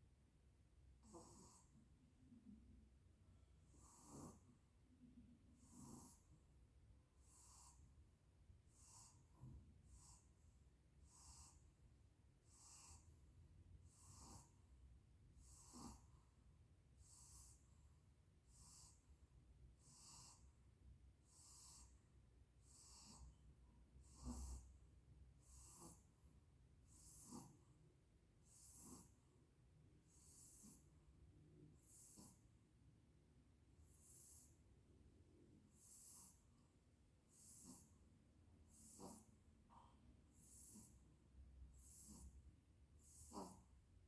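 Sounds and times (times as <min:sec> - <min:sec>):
dog breathing softly: 0:00.9 - 0:02.6, 0:03.4 - 0:32.9, 0:33.6 - 0:44.0.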